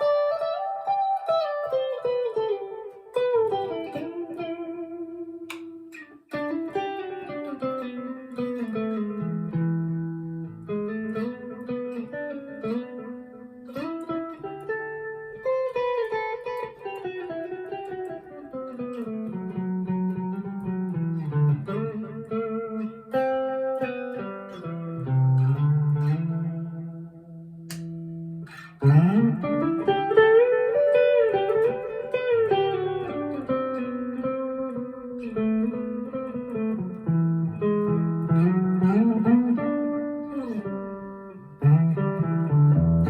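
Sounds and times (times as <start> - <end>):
clean electric guitar playing: 0.0 - 43.0.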